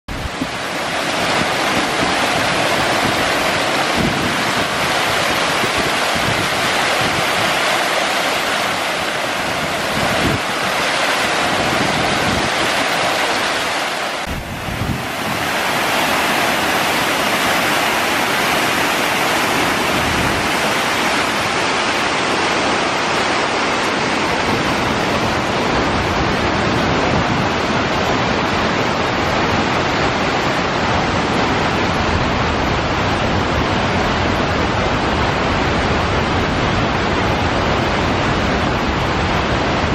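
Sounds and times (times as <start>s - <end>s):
river water rushing over spillway: 0.1s - 39.9s.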